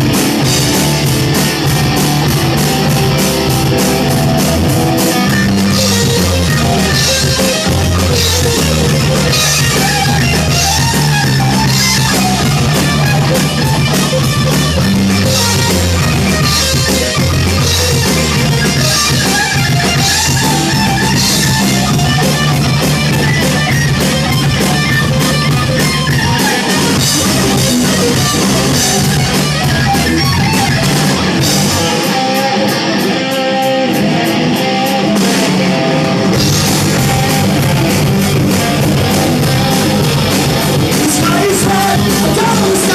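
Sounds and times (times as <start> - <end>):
bass: 0.0 - 42.9
drum kit: 0.0 - 42.9
electric guitar: 0.0 - 42.9.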